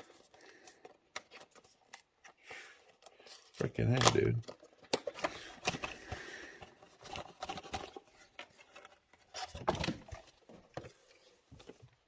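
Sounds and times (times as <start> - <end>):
packaging taps and rustles: 0.0 - 12.0.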